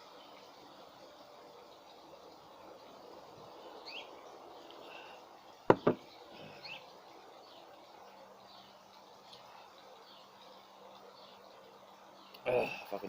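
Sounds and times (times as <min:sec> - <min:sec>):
outdoor background hiss: 0:00.0 - 0:13.0
small birds chirping: 0:00.0 - 0:13.0.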